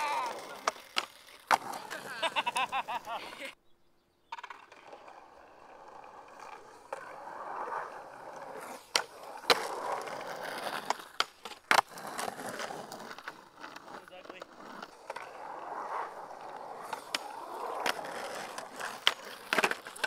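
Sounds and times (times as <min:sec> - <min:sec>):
skateboard clacks: 0:00.0 - 0:03.3, 0:04.3 - 0:20.0
skateboard wheels rolling on pavement: 0:00.0 - 0:03.6, 0:04.2 - 0:20.0.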